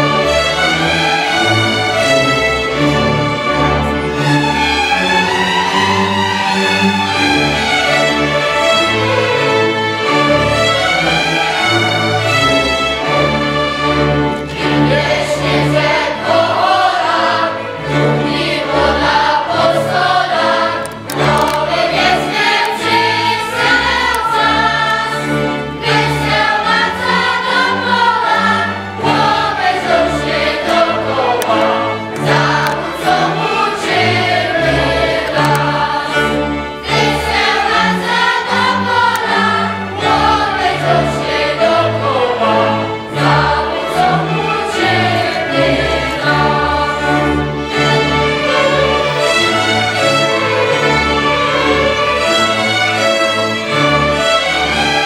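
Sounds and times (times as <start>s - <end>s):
many voices singing together: 0.0s - 55.0s.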